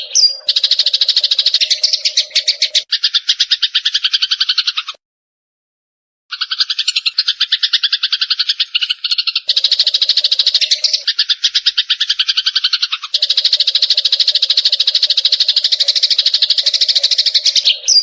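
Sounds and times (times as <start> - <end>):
fighting sparrow calling: 0.0 - 5.0, 6.3 - 18.0
sparrow chirping: 0.0 - 5.0, 6.3 - 18.0.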